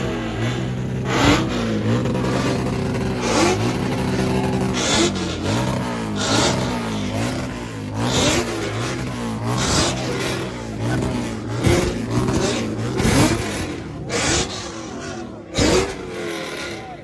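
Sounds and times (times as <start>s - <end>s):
vehicle engines revving: 0.0s - 17.0s.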